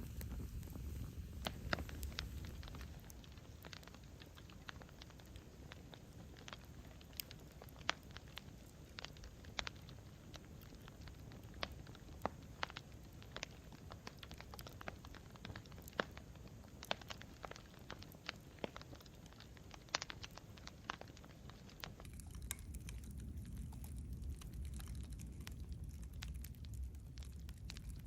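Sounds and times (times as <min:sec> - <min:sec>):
burning wood popping and snapping: 0:00.0 - 0:28.0
low rumble of flame: 0:00.0 - 0:28.0.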